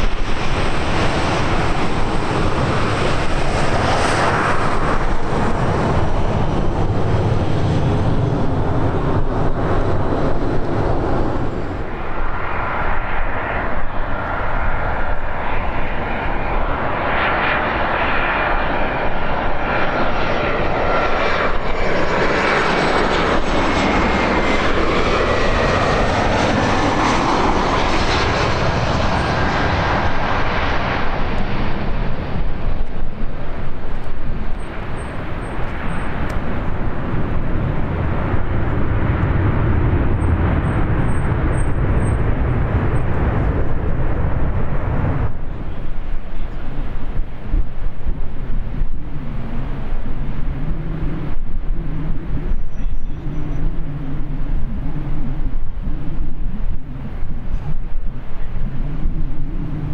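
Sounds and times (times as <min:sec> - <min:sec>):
airliner engines passing: 0:00.0 - 0:59.9
wind buffeting microphone: 0:00.0 - 0:59.9.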